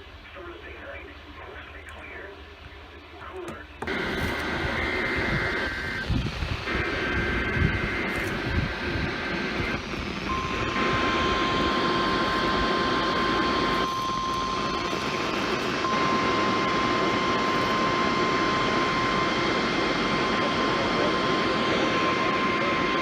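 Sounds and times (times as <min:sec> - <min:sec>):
faint steady tones: 0:00.0 - 0:23.0
radio static hiss: 0:00.0 - 0:23.0
steady alarm tone: 0:03.8 - 0:23.0.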